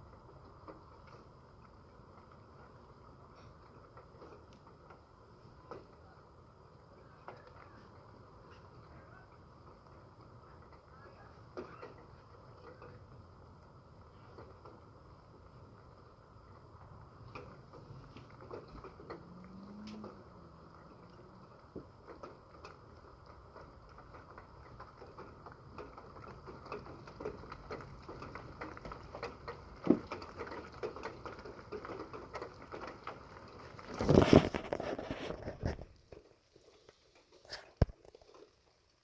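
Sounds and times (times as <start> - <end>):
rain pattering: 0.0 - 39.0.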